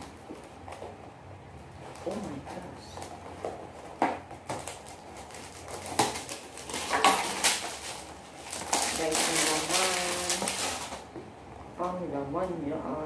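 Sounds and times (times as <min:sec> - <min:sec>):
paperboard and packaging rustling: 0:00.0 - 0:11.3.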